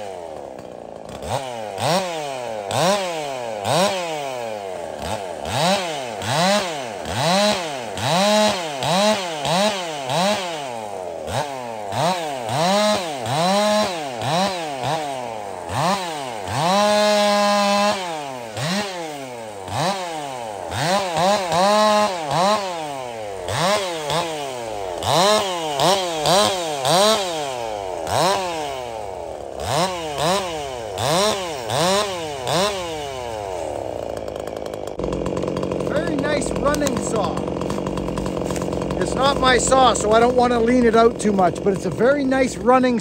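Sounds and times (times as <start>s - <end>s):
chainsaw revving: 0.0s - 43.0s.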